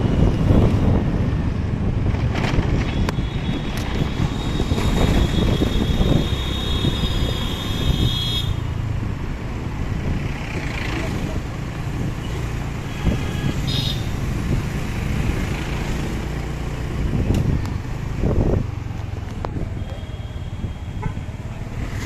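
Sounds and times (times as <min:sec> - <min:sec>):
vehicles passing: 0:00.0 - 0:22.0
wind and road noise: 0:00.0 - 0:22.0.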